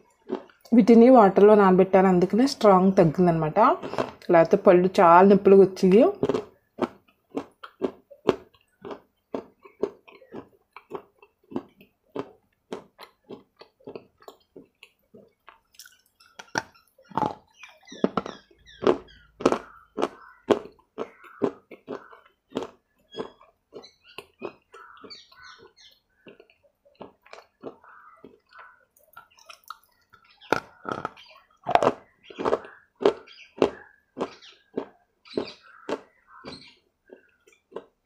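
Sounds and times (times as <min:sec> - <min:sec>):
crunching and chewing clay: 0:00.0 - 0:00.7, 0:03.7 - 0:04.3, 0:06.1 - 0:38.0.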